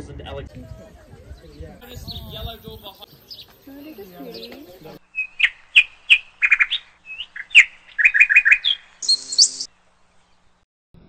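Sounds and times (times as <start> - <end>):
songbirds chirping: 0.0 - 10.6.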